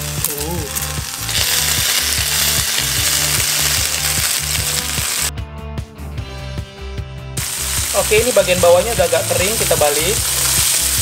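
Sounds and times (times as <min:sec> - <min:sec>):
sausages sizzling in grill pan: 0:00.0 - 0:05.3, 0:07.4 - 0:11.0.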